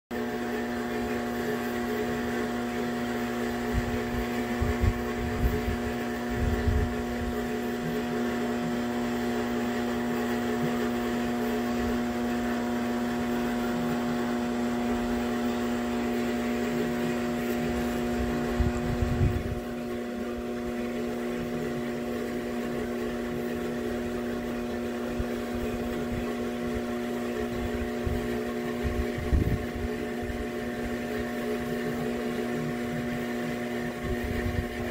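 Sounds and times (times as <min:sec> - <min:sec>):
electric motor hum: 0:00.1 - 0:34.9.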